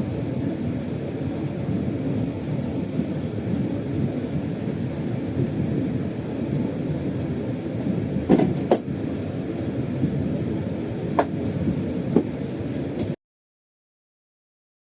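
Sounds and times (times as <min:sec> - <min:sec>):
train cab rumble: 0:00.0 - 0:13.2.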